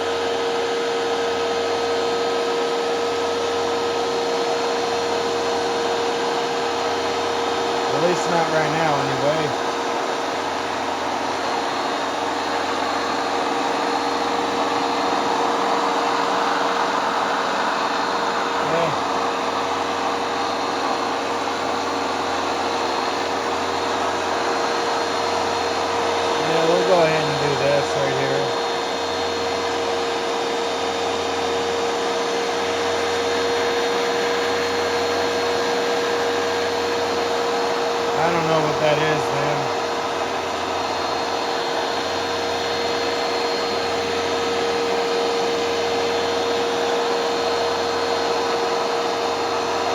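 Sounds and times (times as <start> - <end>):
carpet cleaner suction rushing: 0.0 - 49.9
steady motor hum: 0.0 - 49.9.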